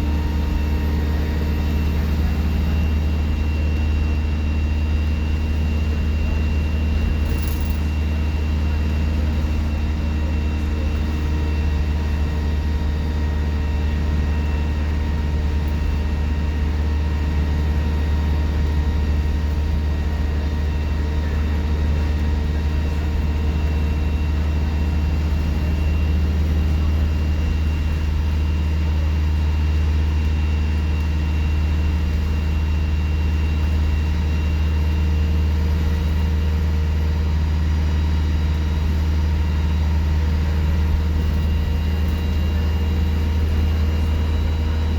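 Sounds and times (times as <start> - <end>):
diesel bus engine running: 0.0 - 44.9
turbocharger whine: 0.0 - 44.9.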